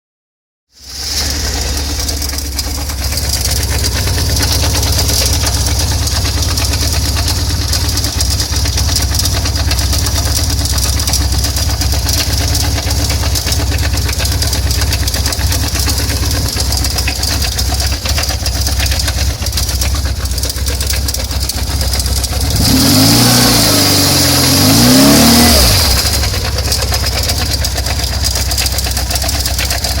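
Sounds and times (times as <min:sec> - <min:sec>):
motorcycle engine idling: 0:00.8 - 0:30.0
motorcycle engine revving: 0:00.8 - 0:30.0.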